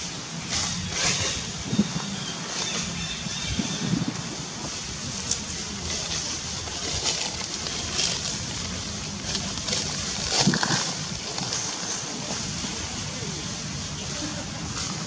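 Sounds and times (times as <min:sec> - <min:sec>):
crackling rustles of leaves: 0:00.0 - 0:15.0.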